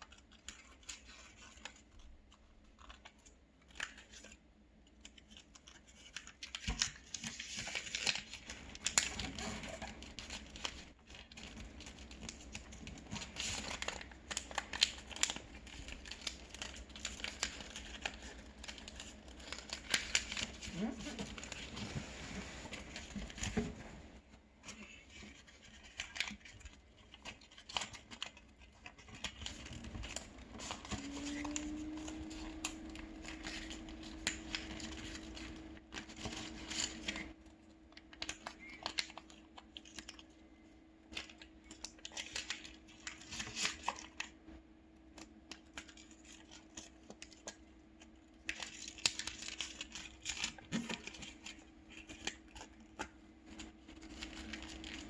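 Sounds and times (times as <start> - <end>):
paper being folded and creased: 0.0 - 44.3, 45.1 - 55.0.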